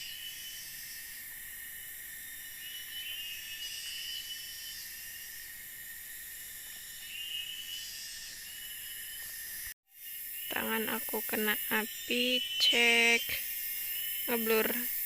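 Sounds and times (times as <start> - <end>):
insects chorus: 0.0 - 15.0
trilling insect calls: 0.0 - 15.0.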